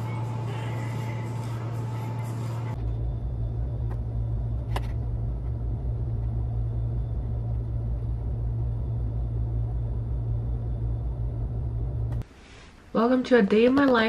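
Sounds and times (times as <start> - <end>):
room machinery rumbling hum: 0.0 - 14.0.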